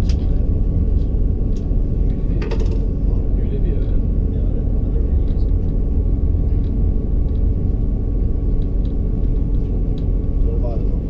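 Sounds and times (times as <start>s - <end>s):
train low rumble inside carriage: 0.0s - 11.0s.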